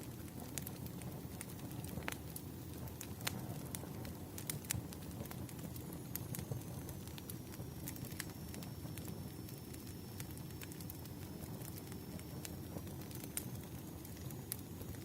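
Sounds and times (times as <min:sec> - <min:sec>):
burning logs popping and crackling: 0:00.0 - 0:15.0
fire rumbling: 0:00.0 - 0:15.0.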